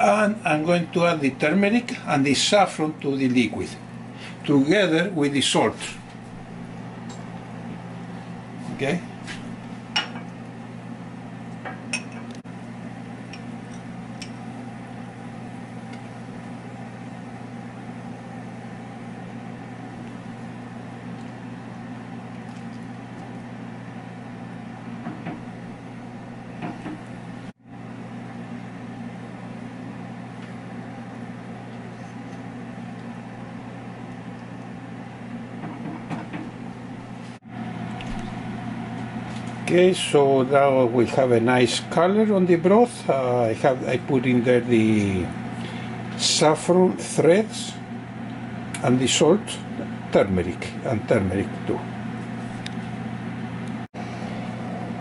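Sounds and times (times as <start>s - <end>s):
kitchen motor humming: 0.0s - 55.0s.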